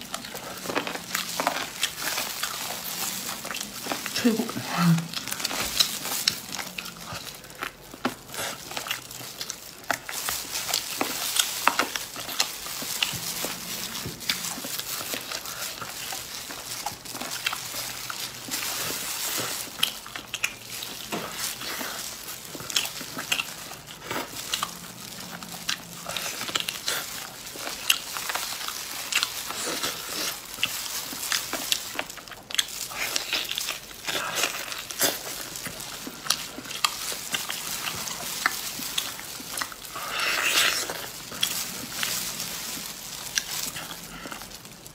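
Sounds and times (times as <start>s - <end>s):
wet chewing and lip-smacking: 4.9s - 44.9s.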